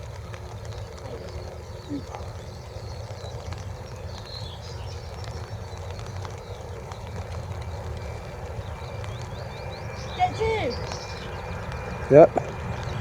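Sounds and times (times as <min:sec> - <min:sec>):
low outdoor rumble: 0:00.0 - 0:13.0
faint bird chirps: 0:00.4 - 0:13.0.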